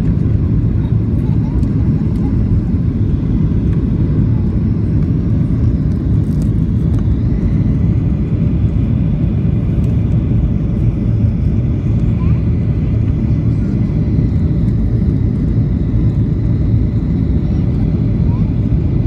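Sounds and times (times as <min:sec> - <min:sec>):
airplane cabin engine and airflow rumble: 0:00.0 - 0:19.0.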